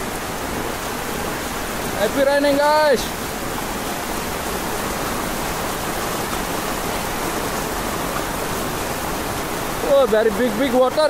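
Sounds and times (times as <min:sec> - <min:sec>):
heavy rain on wet pavement: 0:00.0 - 0:11.0
running water: 0:00.0 - 0:11.0.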